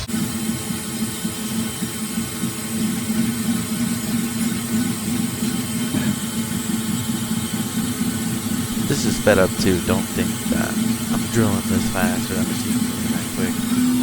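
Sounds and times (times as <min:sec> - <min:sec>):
machine hiss: 0:00.0 - 0:14.0
milling machine hum: 0:00.0 - 0:14.0.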